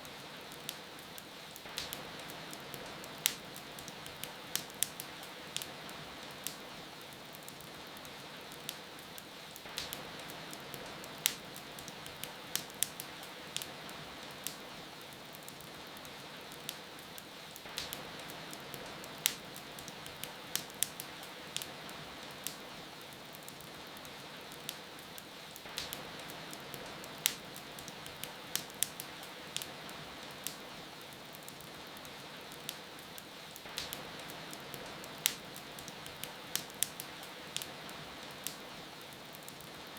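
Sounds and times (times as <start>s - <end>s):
wood fire crackling: 0.0s - 39.9s
rain falling: 0.1s - 39.9s.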